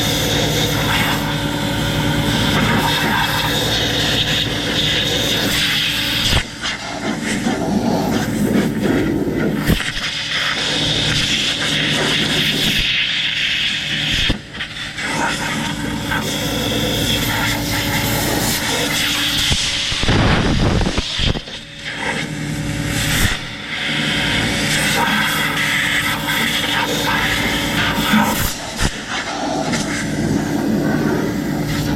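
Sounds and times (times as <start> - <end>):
engine drone: 0.0 - 31.9.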